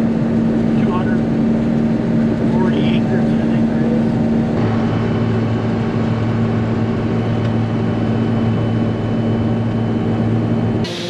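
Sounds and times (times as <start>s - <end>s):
engine drone inside cab: 0.0s - 11.0s.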